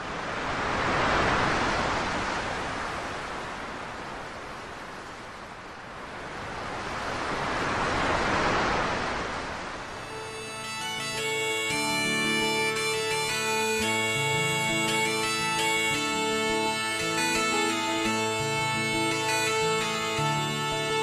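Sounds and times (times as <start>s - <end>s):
waves breaking on beach: 0.0s - 21.0s.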